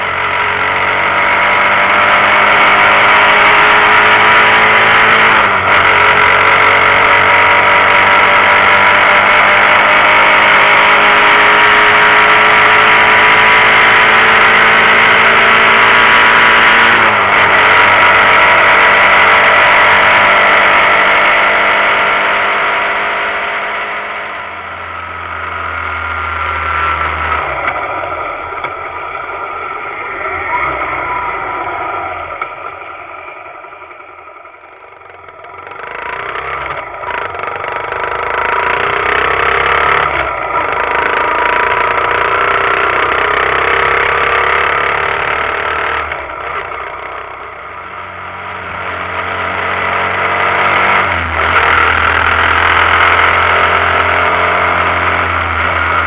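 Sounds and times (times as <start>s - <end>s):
muffled motorcycle engine running: 0.0s - 56.0s.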